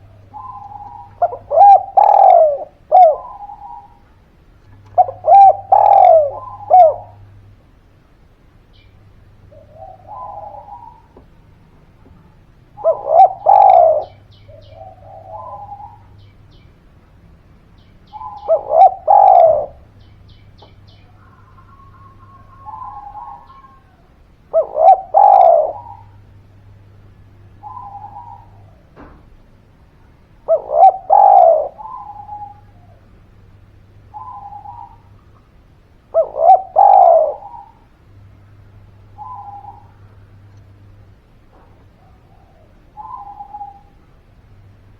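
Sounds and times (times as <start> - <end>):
dove cooing: 0.0 - 7.6, 8.8 - 16.5, 18.0 - 44.7.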